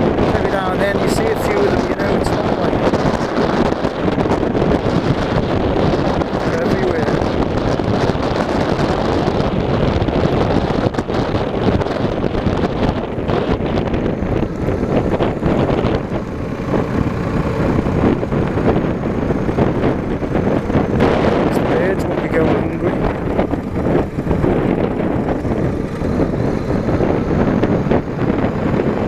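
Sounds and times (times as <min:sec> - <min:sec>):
motorcycle engine running: 0:00.0 - 0:29.0
wind buffeting on microphone: 0:00.0 - 0:29.0.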